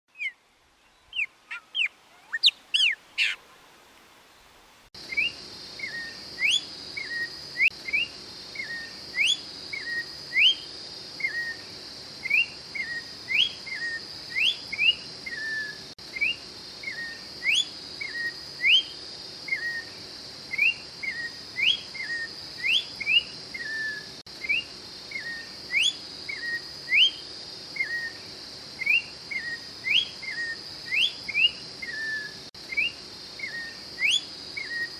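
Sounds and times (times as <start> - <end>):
bird whistling song: 0.1 - 0.4, 1.0 - 3.4, 5.1 - 27.2, 27.8 - 34.9.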